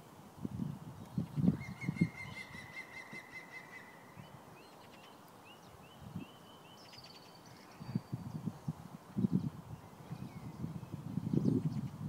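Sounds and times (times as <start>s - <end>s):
small bird singing: 0.6s - 12.0s.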